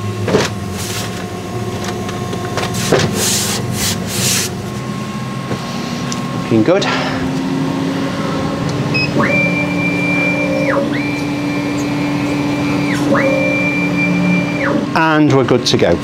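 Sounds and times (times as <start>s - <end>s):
laser cutter motor whine: 0.0s - 16.0s
steady machine hum: 0.0s - 16.0s.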